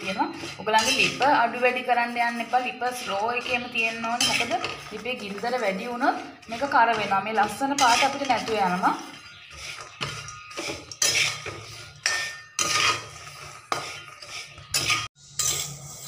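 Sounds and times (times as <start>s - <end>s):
spoon stirring peanuts in metal pan: 0.0s - 16.0s.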